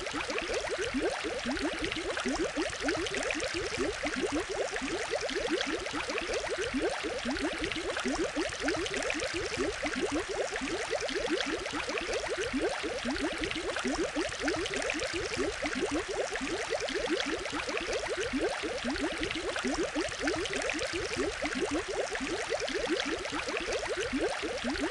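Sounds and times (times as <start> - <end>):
aquarium water bubbling: 0.0 - 24.9.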